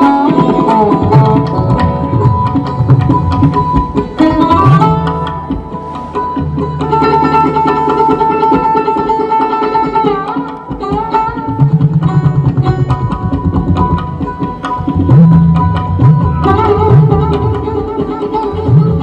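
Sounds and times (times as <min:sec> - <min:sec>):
tabla rhythm: 0:00.0 - 0:19.0.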